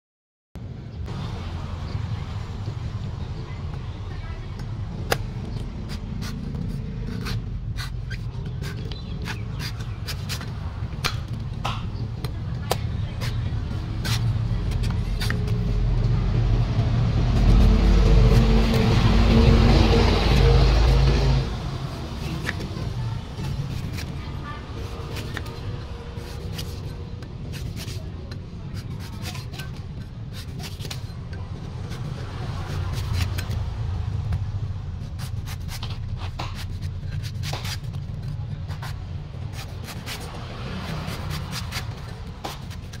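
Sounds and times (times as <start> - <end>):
steady low rumble: 0.6 - 29.1, 29.7 - 43.0
cleaver chopping coconut husk: 4.6 - 43.0.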